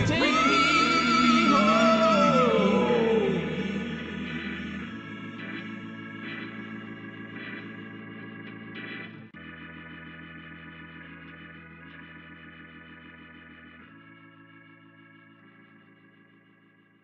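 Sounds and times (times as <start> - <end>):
instrumental held chords: 0.0 - 17.0.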